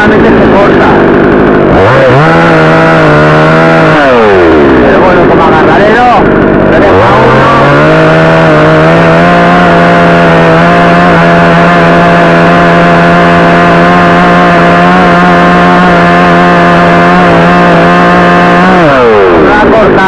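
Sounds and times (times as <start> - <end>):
chainsaw cutting branch: 1.0 - 5.1, 6.2 - 19.4.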